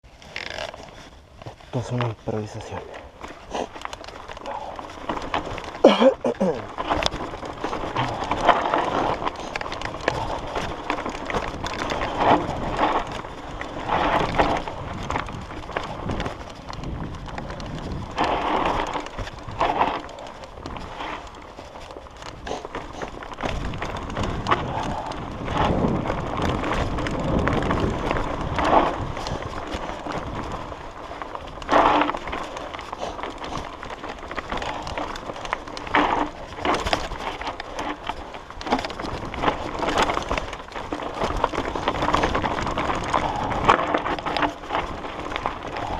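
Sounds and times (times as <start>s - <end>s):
bike tyres crunching on dirt: 0.0s - 45.9s
bike rattling and knocking: 0.1s - 45.9s.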